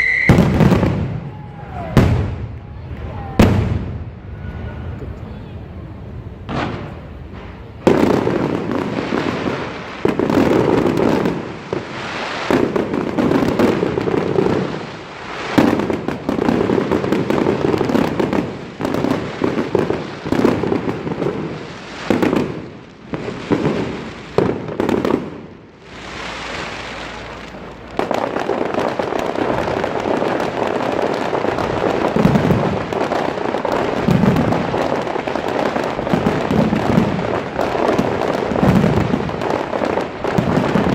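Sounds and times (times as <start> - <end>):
fireworks crackling: 0.0 - 40.9.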